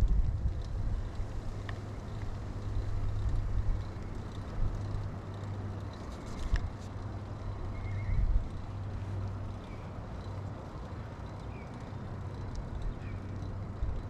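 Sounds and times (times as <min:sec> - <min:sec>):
wind and tyres on road: 0:00.0 - 0:14.0.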